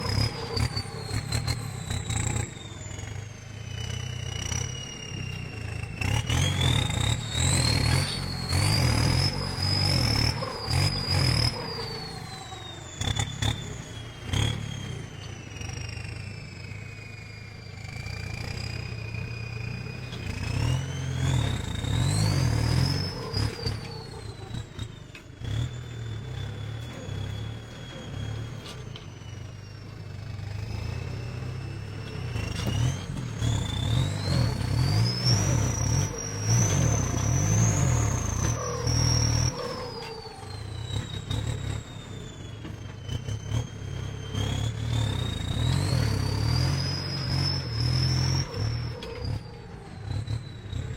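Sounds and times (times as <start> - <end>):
tractor diesel engine labouring: 0.0 - 50.9.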